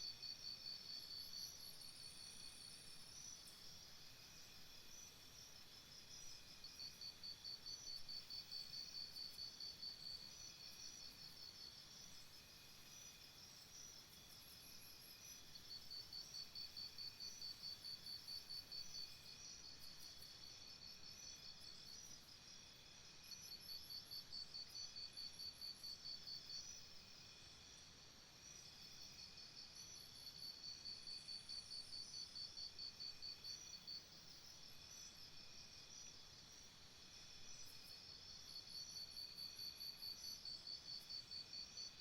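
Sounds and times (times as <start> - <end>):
soft steady insect chirring: 0.0 - 42.0
insects chirping in pulsed trains: 0.9 - 24.2, 28.4 - 42.0.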